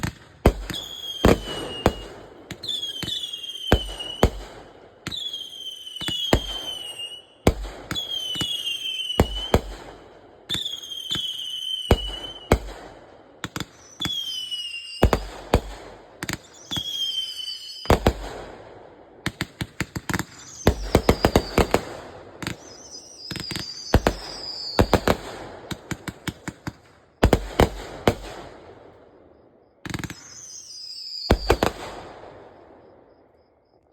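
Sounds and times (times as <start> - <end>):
fireworks whistling: 0.0 - 18.6, 19.3 - 28.5, 29.8 - 33.2
fireworks bangs and crackling: 0.0 - 29.2, 29.8 - 33.0.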